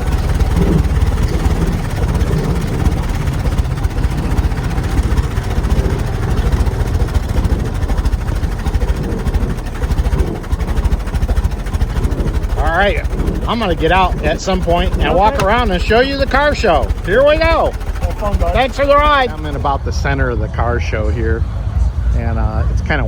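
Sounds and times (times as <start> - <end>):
car engine low pulsing: 0.0 - 23.0
noisy rush: 0.0 - 23.0.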